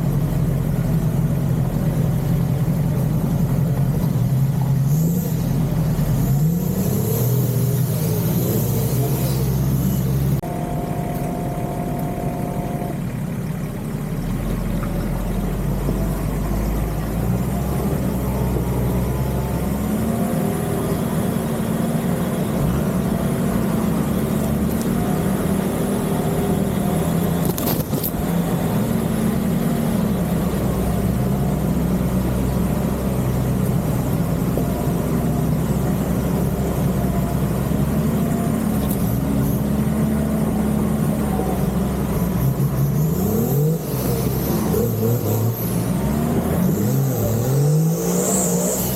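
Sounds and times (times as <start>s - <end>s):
off-road engine revving: 0.0s - 48.9s.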